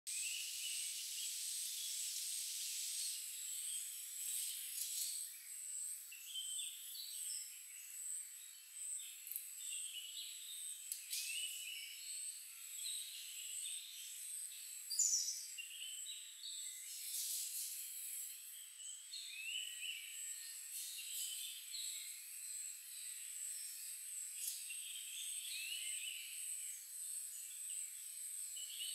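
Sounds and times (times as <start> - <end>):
bird chirps: 0.1 - 26.8, 27.4 - 28.9.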